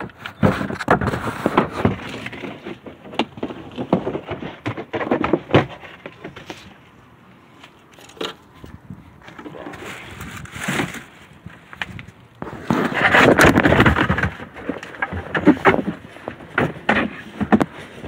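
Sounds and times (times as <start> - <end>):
rough rustling: 0.0 - 18.0.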